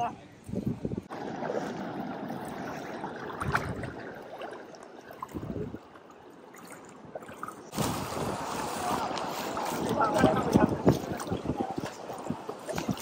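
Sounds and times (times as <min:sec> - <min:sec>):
shallow water sloshing and trickling: 0:01.0 - 0:13.0
water splashes: 0:01.0 - 0:13.0.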